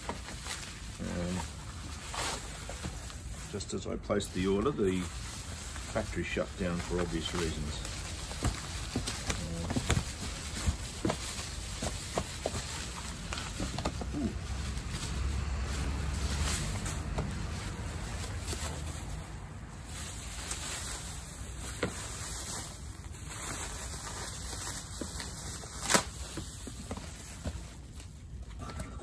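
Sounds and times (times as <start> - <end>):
bubble wrap rustling and crinkling: 0.0 - 29.0.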